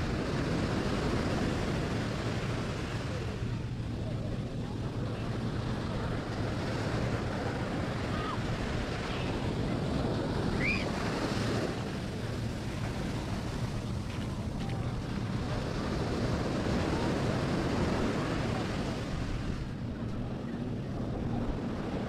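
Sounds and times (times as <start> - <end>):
ocean surf breaking: 0.0 - 20.5.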